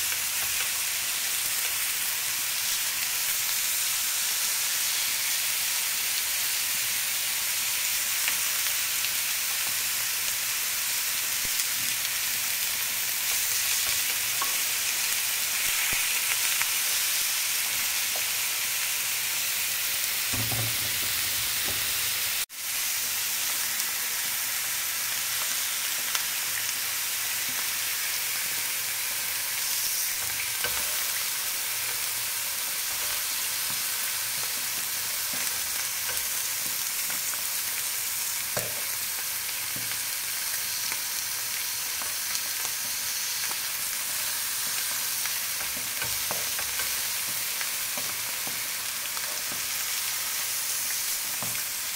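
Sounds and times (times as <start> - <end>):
meat sizzling in oil: 0.0 - 51.9.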